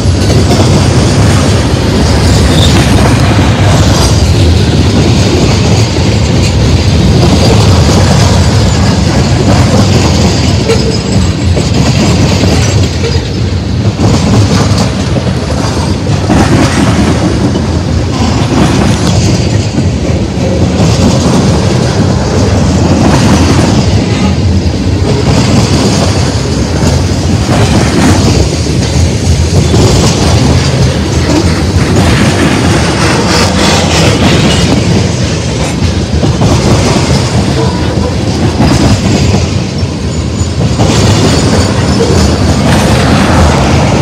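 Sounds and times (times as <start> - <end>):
steel wheels rumbling on rail: 0.0 - 44.0
wheels clacking over rail joint: 0.0 - 44.0.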